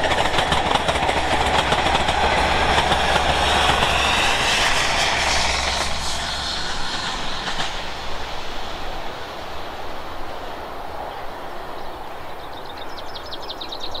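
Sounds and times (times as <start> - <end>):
diesel train rushing noise: 0.0 - 12.6.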